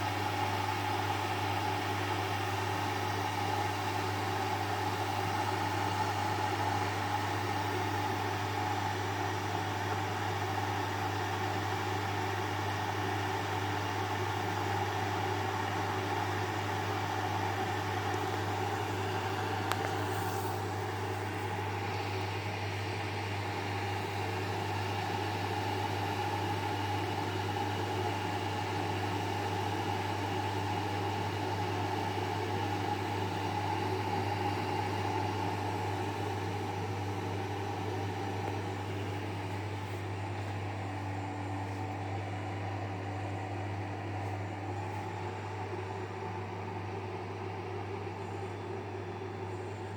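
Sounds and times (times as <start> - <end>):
coffee pot humming and hissing: 0.0 - 49.9.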